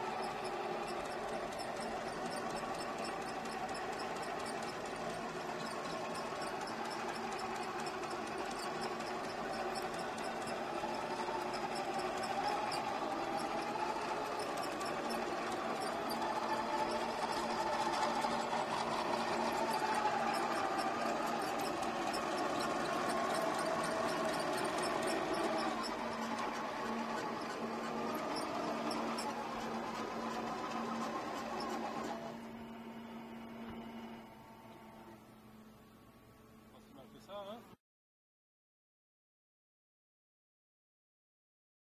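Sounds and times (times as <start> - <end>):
small motor whine: 0.0 - 37.6.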